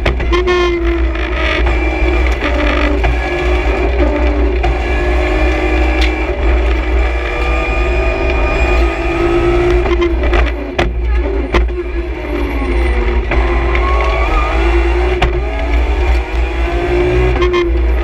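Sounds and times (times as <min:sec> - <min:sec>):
car engine at high revs: 0:00.0 - 0:18.0
road and tyre rumble: 0:00.0 - 0:18.0.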